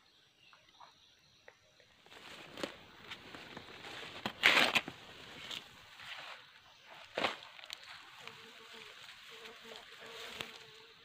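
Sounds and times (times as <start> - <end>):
footsteps in undergrowth: 2.0 - 10.9
rustling of grass and leaves: 2.0 - 11.0.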